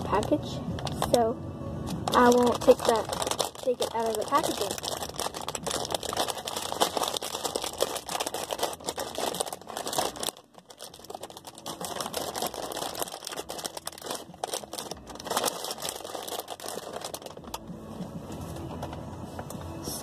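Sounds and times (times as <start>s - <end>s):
plastic packaging crackling: 0.0s - 17.7s.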